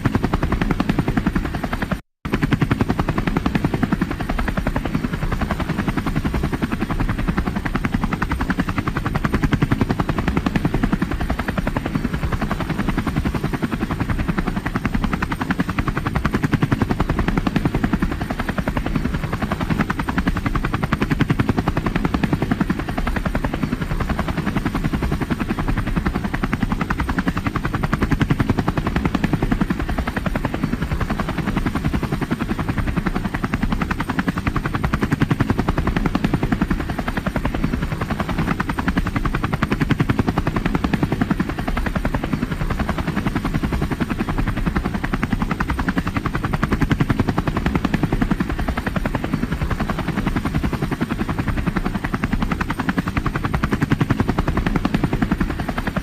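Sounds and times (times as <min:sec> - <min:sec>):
helicopter rotor beating: 0:00.0 - 0:56.0.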